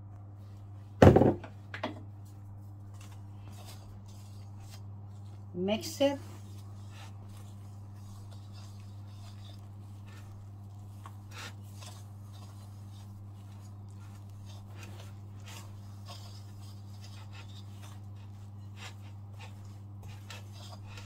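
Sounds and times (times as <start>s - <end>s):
steady low hum: 0.0s - 21.0s
spatula scraping dough in glass bowl: 2.9s - 21.0s.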